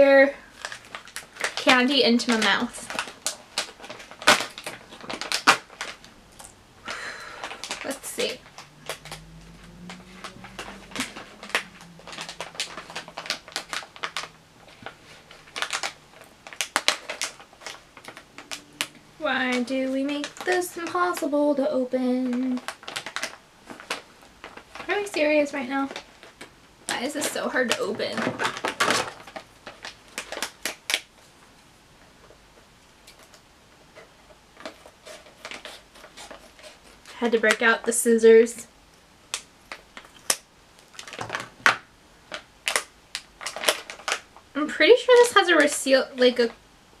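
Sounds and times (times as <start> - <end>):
plastic packaging crinkling: 0.0 - 46.6.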